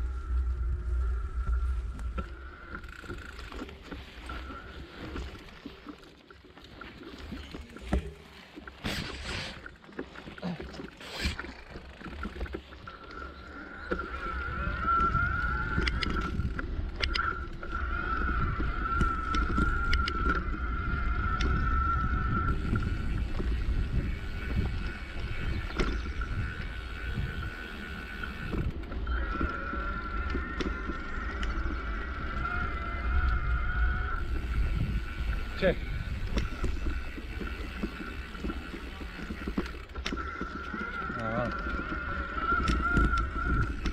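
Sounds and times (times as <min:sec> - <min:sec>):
bike tyres rumbling on dirt: 0:00.0 - 0:43.9.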